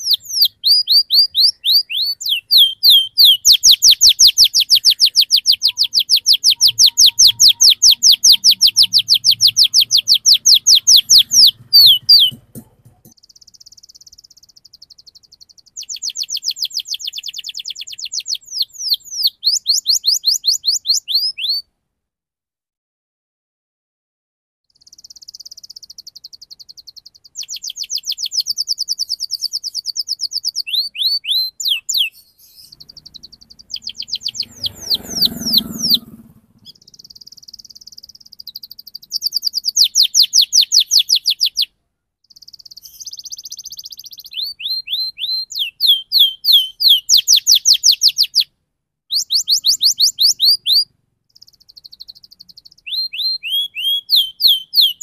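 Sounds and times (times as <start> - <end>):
canary singing trills: 0.0 - 21.7, 24.7 - 48.5, 49.1 - 55.0.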